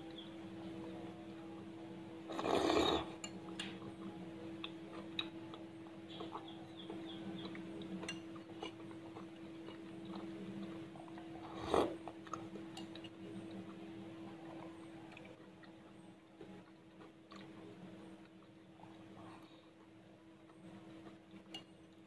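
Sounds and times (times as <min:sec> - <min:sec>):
quiet chewing: 0:00.0 - 0:22.0.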